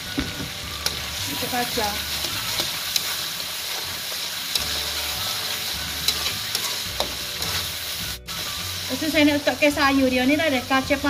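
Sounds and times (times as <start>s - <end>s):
sauce sizzling in a wok: 0.0s - 11.0s.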